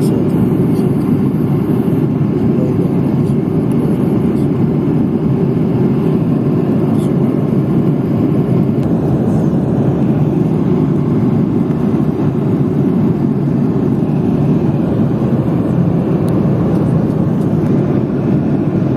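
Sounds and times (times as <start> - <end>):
airliner cabin engine noise: 0.0 - 18.9.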